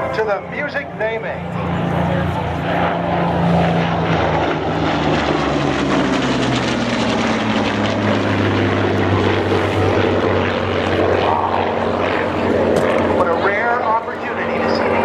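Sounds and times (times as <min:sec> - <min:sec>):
deep radial engine drone: 0:00.0 - 0:15.0
higher aircraft engine note: 0:00.0 - 0:15.0.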